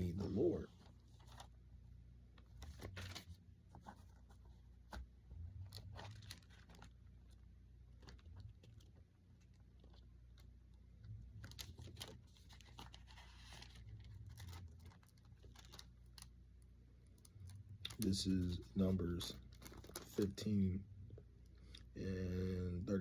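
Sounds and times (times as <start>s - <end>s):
rustling and crinkling: 0.1s - 1.6s, 2.3s - 20.5s.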